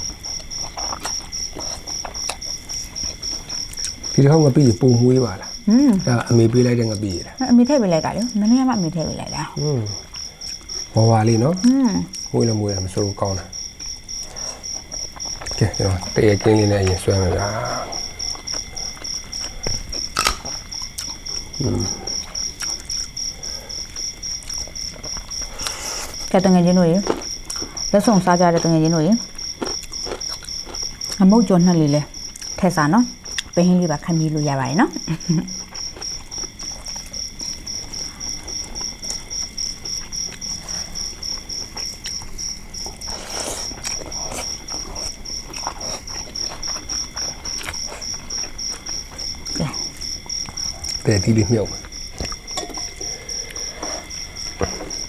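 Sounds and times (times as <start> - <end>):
close eating sounds: 0.0 - 55.0
crickets chirping: 0.0 - 55.0.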